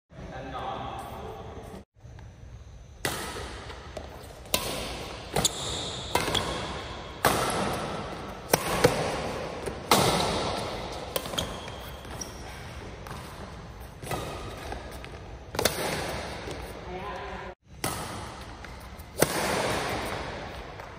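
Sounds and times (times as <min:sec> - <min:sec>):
racket striking shuttlecock: 0:03.0 - 0:16.8, 0:17.7 - 0:20.9.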